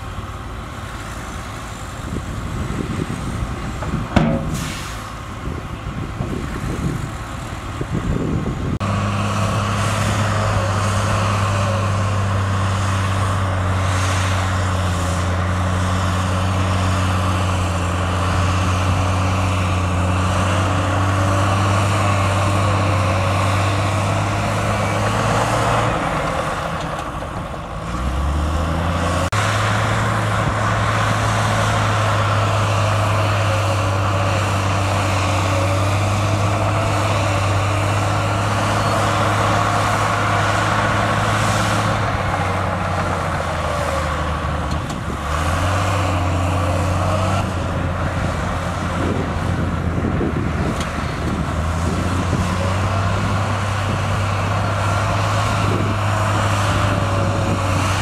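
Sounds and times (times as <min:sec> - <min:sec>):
heavy machine diesel engine running: 0:00.0 - 0:58.0.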